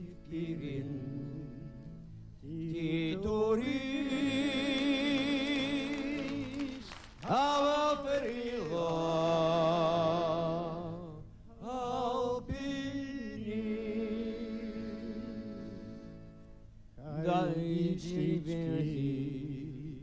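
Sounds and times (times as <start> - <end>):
elderly man singing with vibrato: 0.0 - 16.4, 17.0 - 20.0.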